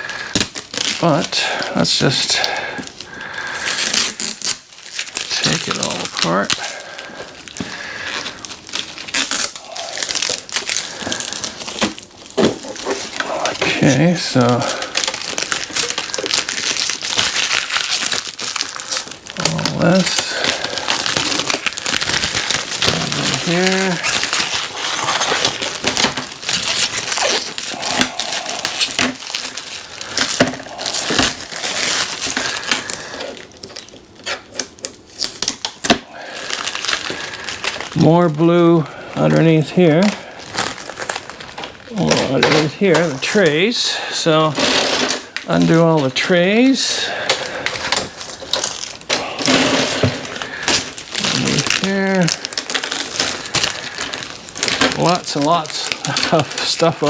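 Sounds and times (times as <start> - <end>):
packing material crinkling: 0.0 - 57.0.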